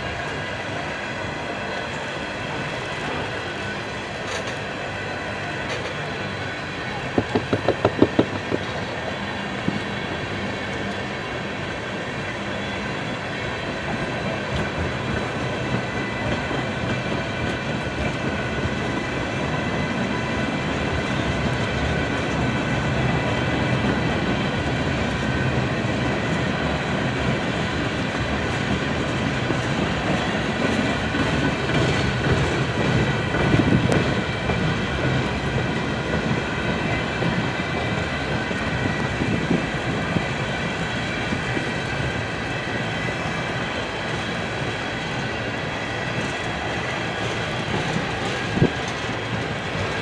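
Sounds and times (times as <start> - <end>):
train rumble: 0.0 - 50.0
train wheels clacking: 0.0 - 50.0.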